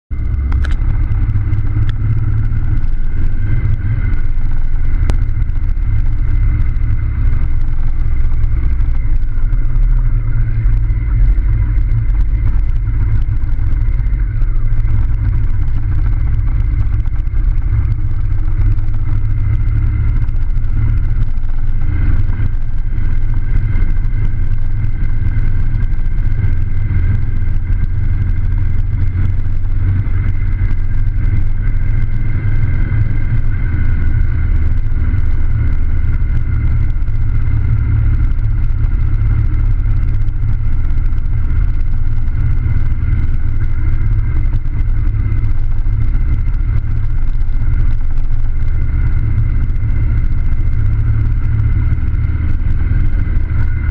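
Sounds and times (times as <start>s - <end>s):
vehicle driving on dirt road: 0.1s - 53.9s.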